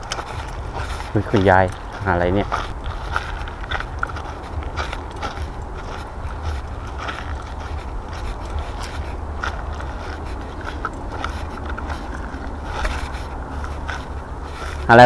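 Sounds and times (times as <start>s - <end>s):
footsteps crunching on dry leaves: 0.0s - 15.0s
wind rumble on microphone: 0.0s - 15.0s.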